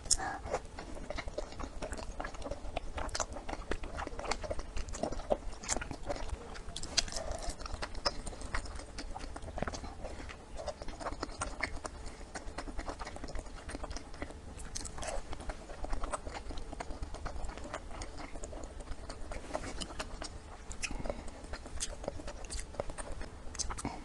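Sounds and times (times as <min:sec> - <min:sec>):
chewing and biting food: 0:00.0 - 0:24.0.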